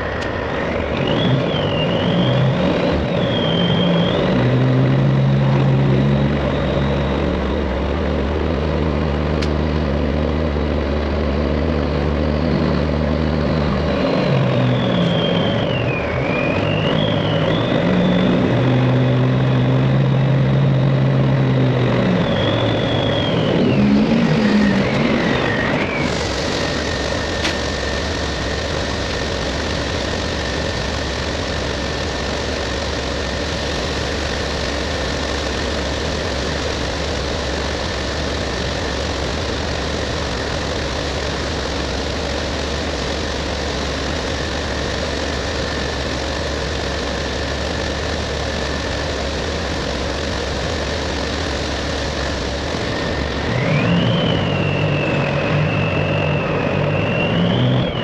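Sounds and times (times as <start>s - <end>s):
diesel engine running: 0.0s - 58.0s
high whine: 0.0s - 58.0s.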